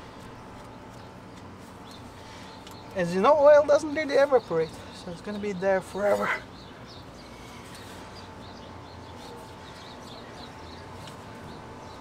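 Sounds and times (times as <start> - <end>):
birds chirping faintly: 0.0 - 12.0
steady background noise: 0.0 - 12.0.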